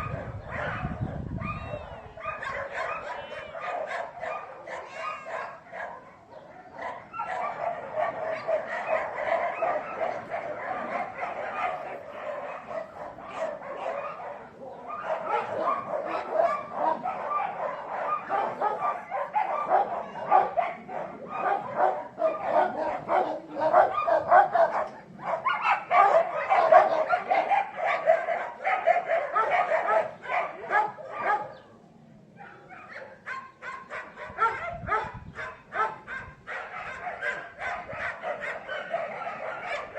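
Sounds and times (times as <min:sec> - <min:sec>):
dog barking and yipping: 0:00.0 - 0:31.6, 0:32.4 - 0:39.9.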